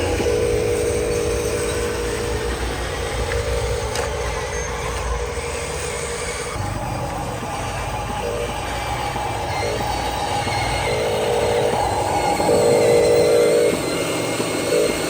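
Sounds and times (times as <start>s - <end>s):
model trucks humming and whining: 0.0s - 15.0s.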